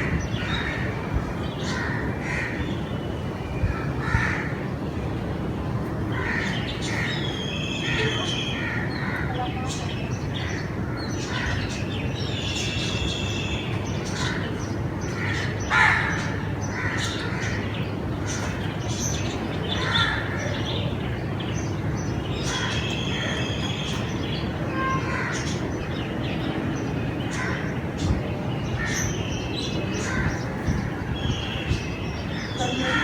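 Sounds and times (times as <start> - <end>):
birds chirping and calling: 0.0 - 4.8, 6.0 - 33.0.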